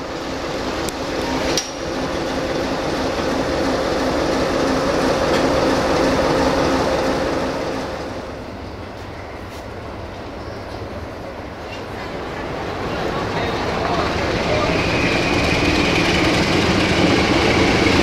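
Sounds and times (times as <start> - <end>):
diesel locomotive engine drone: 0.0 - 18.0.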